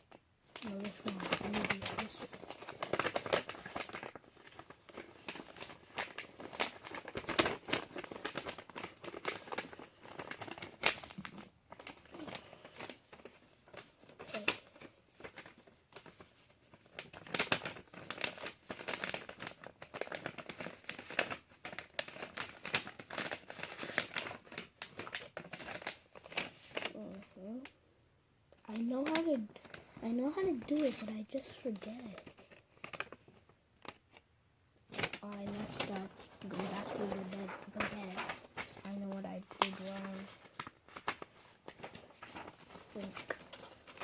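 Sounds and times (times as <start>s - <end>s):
paper crinkling: 0.1s - 27.8s, 28.6s - 34.2s, 34.9s - 44.0s.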